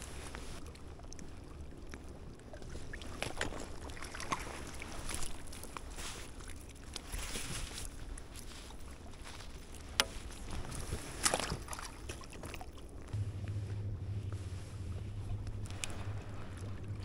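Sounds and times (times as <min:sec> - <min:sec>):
lake water lapping at shore: 0:00.0 - 0:17.0.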